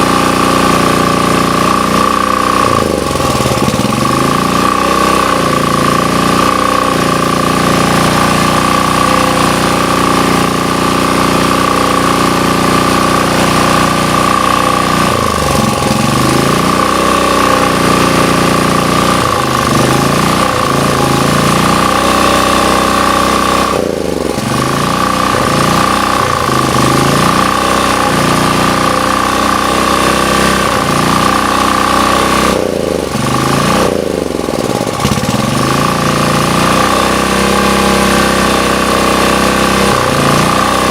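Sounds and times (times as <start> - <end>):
steady high whine: 0.0 - 37.7
portable generator engine running: 0.0 - 40.9.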